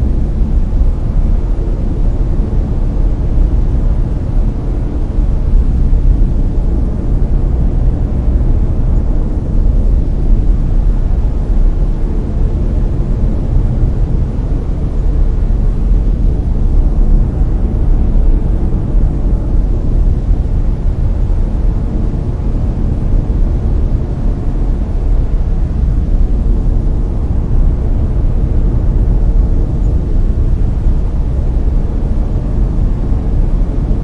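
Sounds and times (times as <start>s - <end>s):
brown noise: 0.0s - 34.0s.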